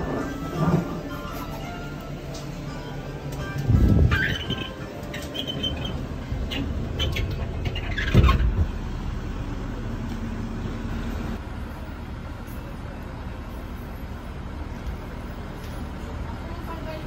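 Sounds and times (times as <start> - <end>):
city street traffic: 0.0 - 17.0
low vehicle rumble: 0.0 - 17.0.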